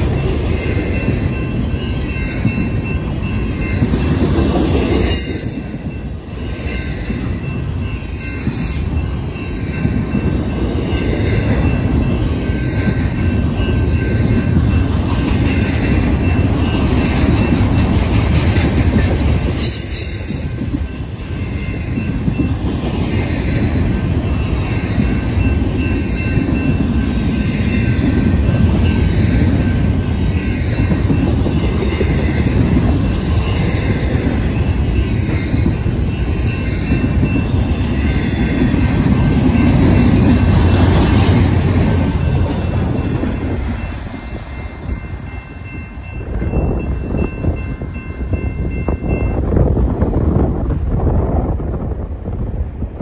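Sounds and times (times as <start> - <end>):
wind buffeting microphone: 0.0 - 19.6, 20.5 - 53.0
freight train rumbling on rails: 0.0 - 53.0.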